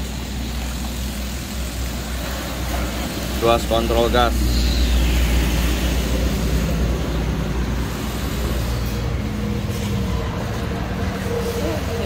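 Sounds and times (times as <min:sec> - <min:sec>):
air rushing through hose: 0:00.0 - 0:12.0.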